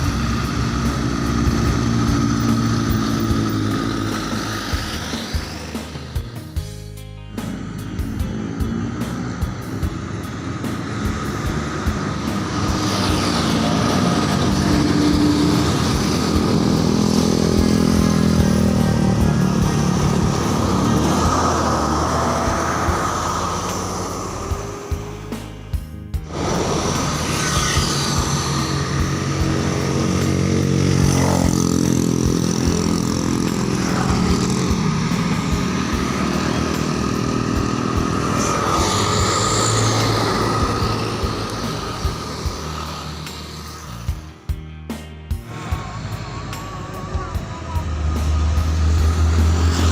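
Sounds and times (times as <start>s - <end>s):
road vehicle passing: 0.0s - 6.6s, 7.3s - 44.4s, 45.4s - 49.9s.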